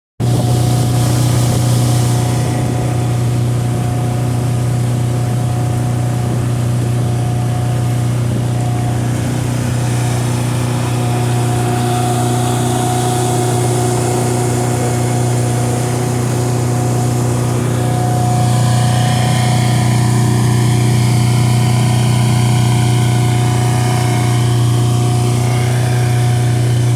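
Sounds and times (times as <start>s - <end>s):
boat motor droning: 0.2s - 26.9s.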